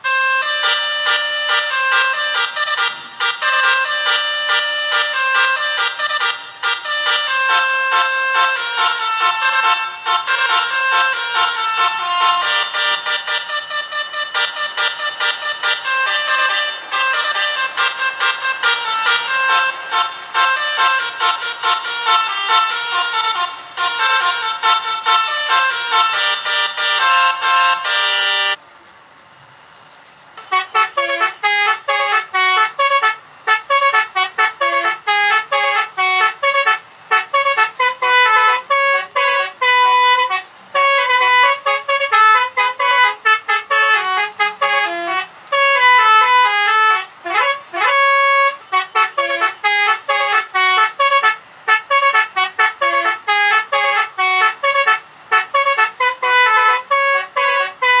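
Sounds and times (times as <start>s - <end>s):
multi-tone bus horn tune: 0.0s - 28.6s, 30.4s - 58.0s.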